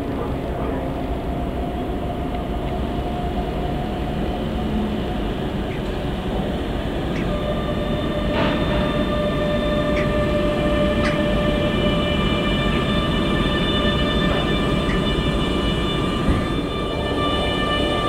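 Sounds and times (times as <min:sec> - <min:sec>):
high whining tones: 0:00.0 - 0:18.0
train rumbling past: 0:00.0 - 0:18.0.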